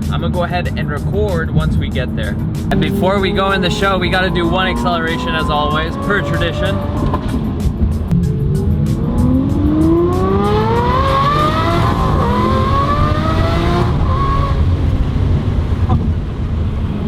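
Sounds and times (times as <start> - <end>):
car engine accelerating hard: 1.0 - 17.0.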